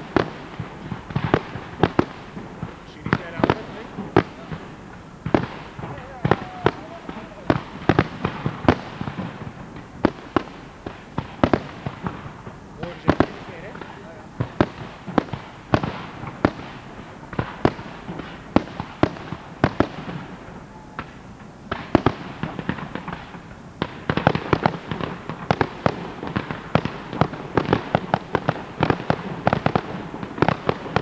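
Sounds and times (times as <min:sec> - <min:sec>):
fireworks bangs: 0:00.0 - 0:31.0.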